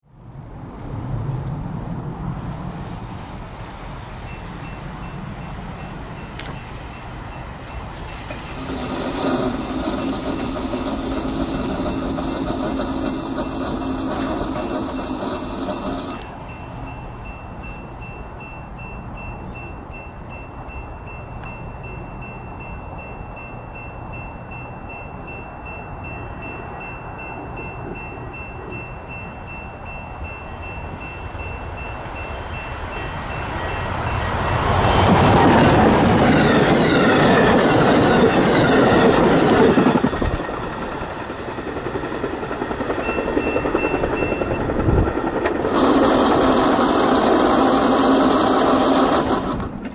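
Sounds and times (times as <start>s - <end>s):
passenger train rushing by: 0.2s - 49.9s.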